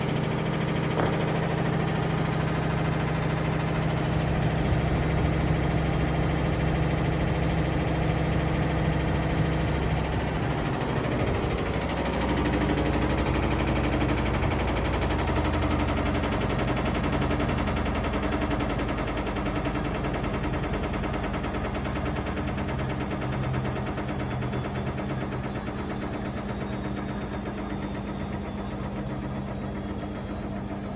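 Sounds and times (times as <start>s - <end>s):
washing machine motor hum: 0.0s - 30.9s.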